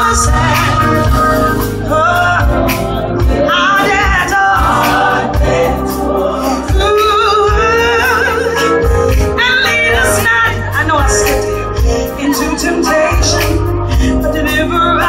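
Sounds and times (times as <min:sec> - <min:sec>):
backing singers: 0:00.0 - 0:15.0
band playing: 0:00.0 - 0:15.0.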